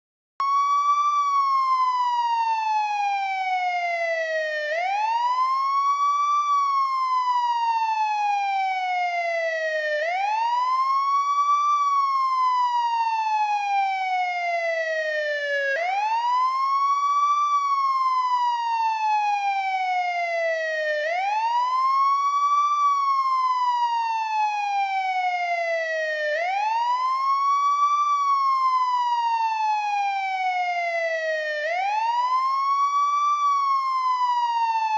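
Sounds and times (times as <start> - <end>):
police siren wailing: 0.4 - 34.9.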